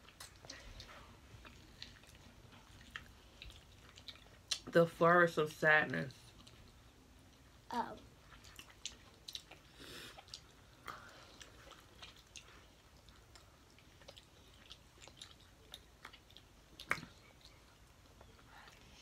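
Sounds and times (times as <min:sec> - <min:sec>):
chewing corn on the cob: 0:00.0 - 0:04.7, 0:08.1 - 0:19.0.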